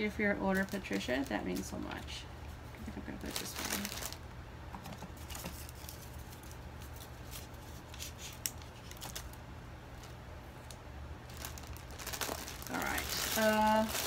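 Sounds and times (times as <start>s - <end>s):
low steady hum: 0.0s - 14.0s
plastic packaging rustling: 0.2s - 2.2s, 2.9s - 14.0s.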